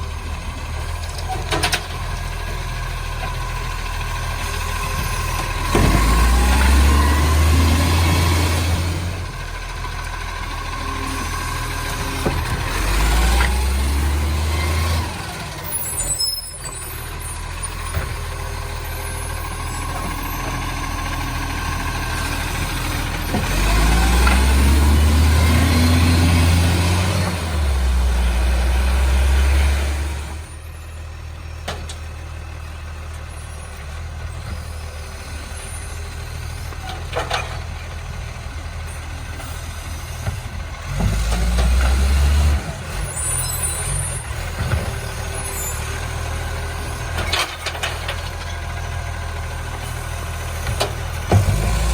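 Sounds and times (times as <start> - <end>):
diesel truck engine revving: 0.0 - 51.9.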